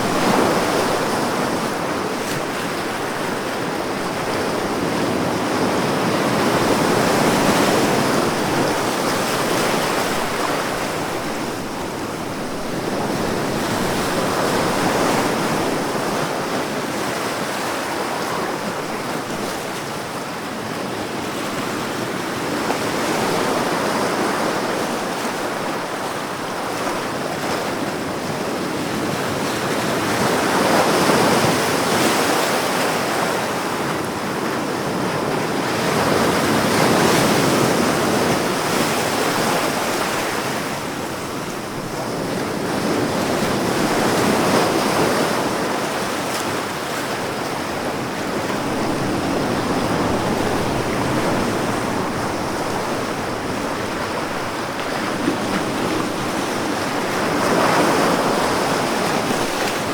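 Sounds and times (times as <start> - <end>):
ocean waves washing: 0.0 - 59.9.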